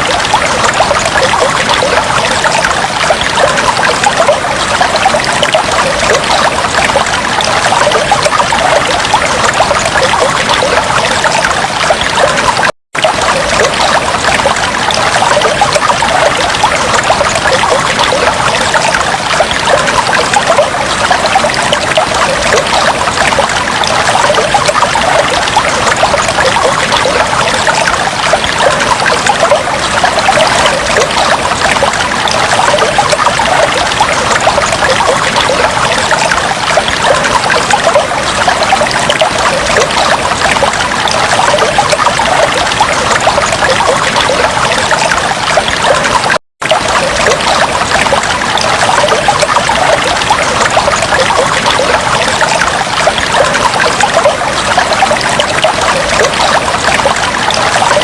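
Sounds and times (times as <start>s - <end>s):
fish tank water trickling and bubbling: 0.0s - 58.0s.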